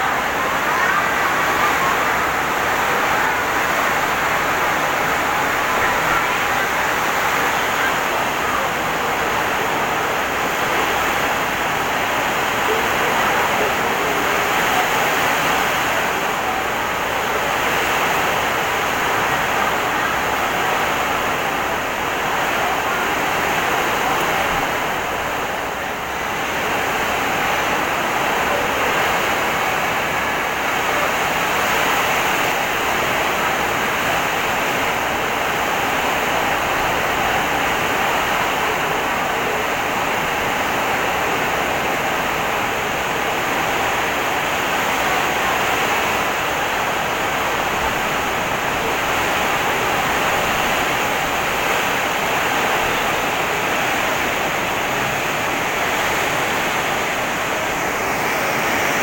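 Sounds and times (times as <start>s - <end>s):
heavy rain pouring: 0.0s - 59.0s
strong wind: 0.0s - 59.0s.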